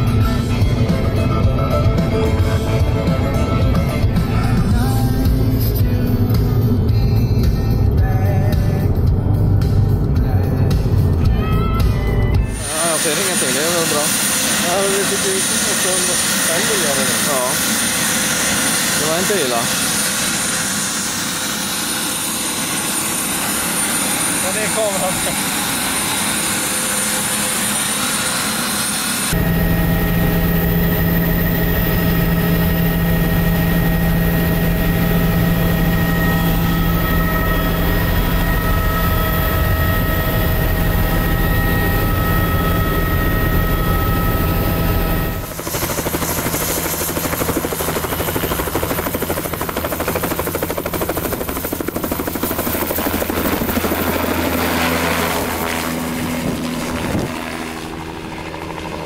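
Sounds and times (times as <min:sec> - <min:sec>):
helicopter engine and rotor drone: 0:00.0 - 0:59.0
turbine whine: 0:00.0 - 0:59.0.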